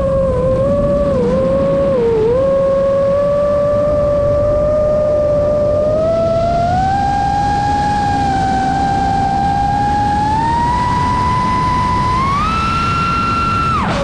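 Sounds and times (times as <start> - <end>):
drone motors whining: 0.0 - 14.0
rushing wind noise: 0.0 - 14.0.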